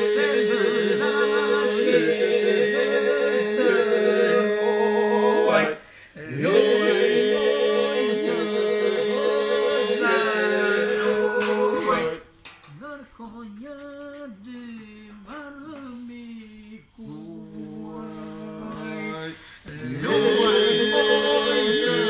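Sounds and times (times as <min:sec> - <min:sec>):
men singing unaccompanied in parts: 0:00.0 - 0:22.0.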